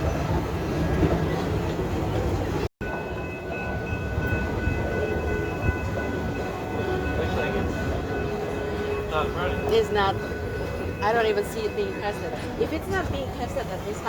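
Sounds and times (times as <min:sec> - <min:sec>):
train car rumble and rattle: 0:00.0 - 0:14.0.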